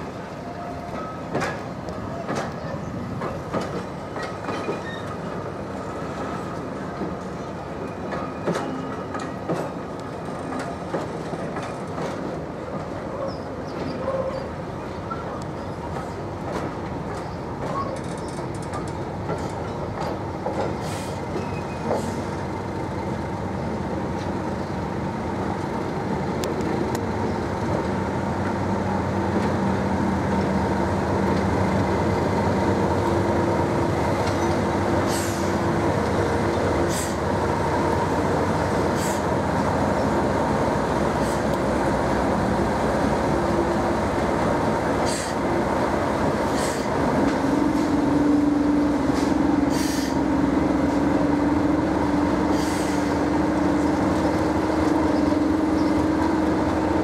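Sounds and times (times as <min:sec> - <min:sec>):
diesel locomotive engine hum: 0:00.0 - 0:57.0
train coaches rolling past: 0:00.0 - 0:57.0.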